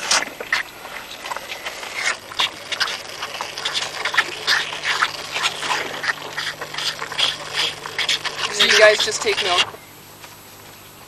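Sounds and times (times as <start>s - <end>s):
calves sucking on milk bottles: 0.0s - 9.8s.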